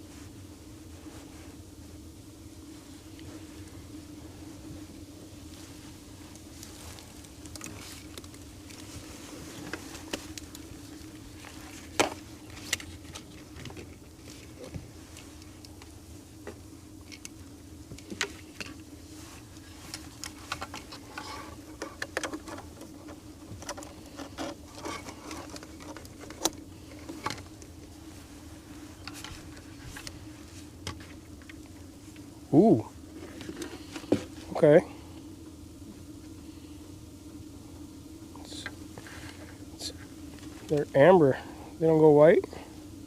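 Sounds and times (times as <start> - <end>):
steady low buzzing hum: 0.0 - 43.0.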